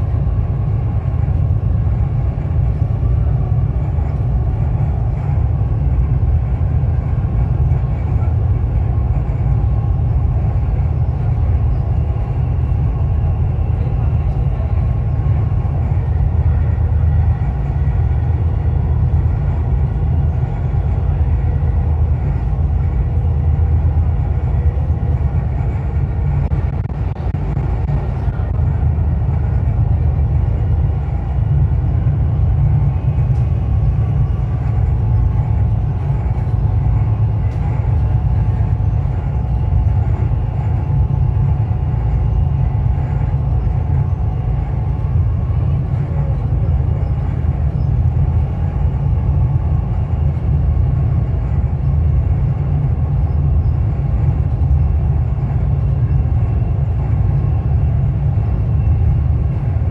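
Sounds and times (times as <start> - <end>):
faint whine: 0.0 - 59.9
train rumble from inside car: 0.0 - 59.9.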